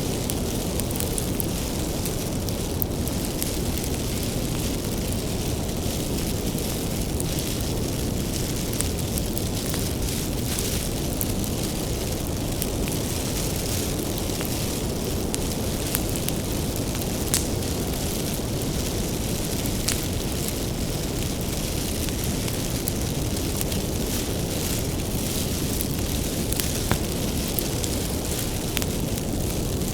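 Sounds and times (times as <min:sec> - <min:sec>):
bonfire burning: 0:00.0 - 0:29.9
firewood crackling and popping: 0:00.0 - 0:29.9.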